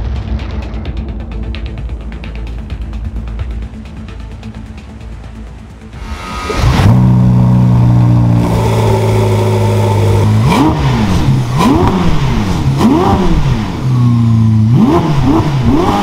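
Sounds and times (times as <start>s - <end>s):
sports car engine idling and revving: 0.0s - 16.0s.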